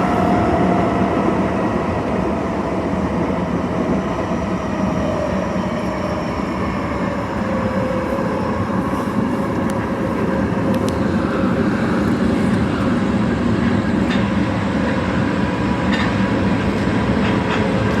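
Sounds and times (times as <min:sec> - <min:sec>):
subway car wheels rumbling on rail: 0:00.0 - 0:18.0.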